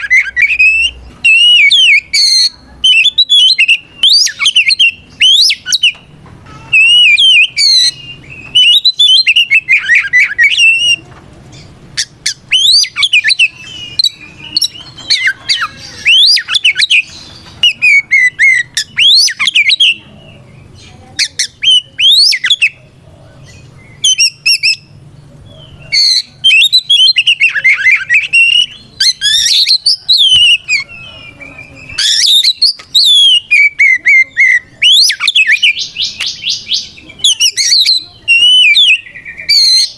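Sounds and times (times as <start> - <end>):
bird singing whistles and trills: 0.0 - 6.1, 6.7 - 11.0, 12.0 - 22.8, 23.4 - 39.9.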